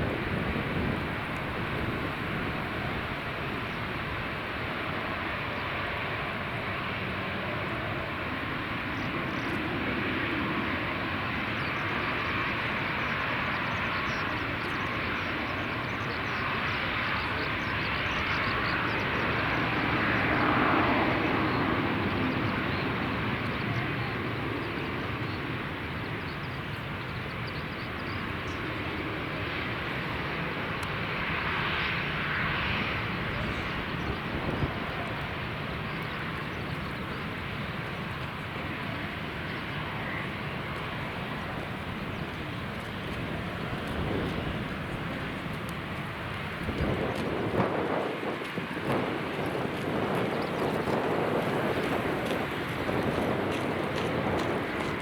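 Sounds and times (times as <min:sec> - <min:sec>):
airliner engines passing: 0:00.0 - 0:55.0.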